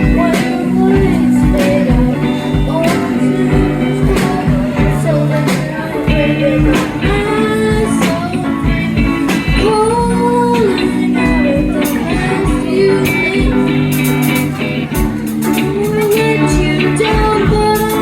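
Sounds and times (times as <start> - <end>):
person singing: 0.0 - 18.0
rock band playing live: 0.0 - 18.0.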